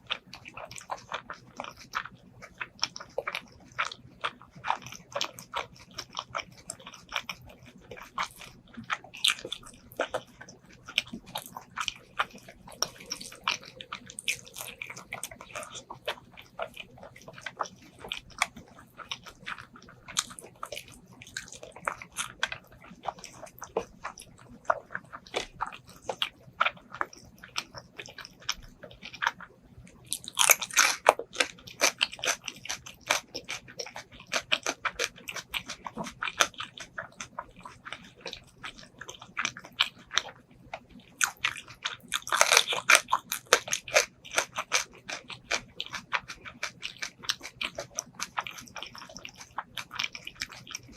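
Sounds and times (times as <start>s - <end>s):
chewing and biting food: 0.0s - 50.9s
faint steady hum: 0.0s - 50.9s.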